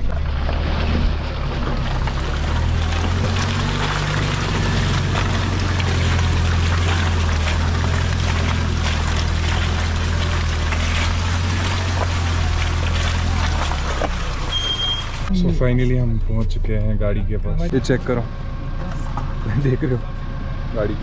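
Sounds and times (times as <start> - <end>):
tyres squelching through mud: 0.0 - 16.9
diesel engine running: 0.0 - 21.0.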